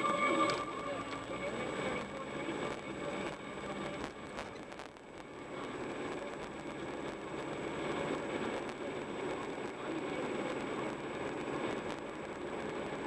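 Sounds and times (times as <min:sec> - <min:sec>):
car road and tyre noise: 0:00.0 - 0:13.0.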